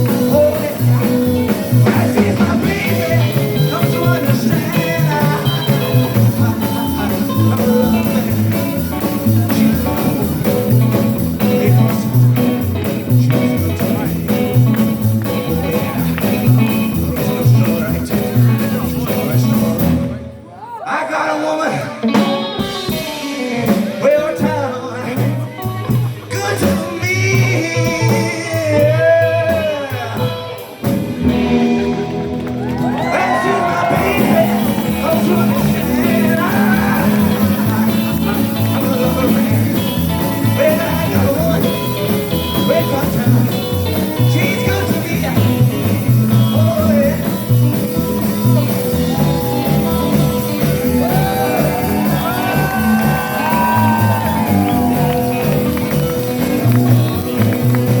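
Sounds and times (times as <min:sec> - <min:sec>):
rockabilly band playing: 0:00.0 - 0:58.0.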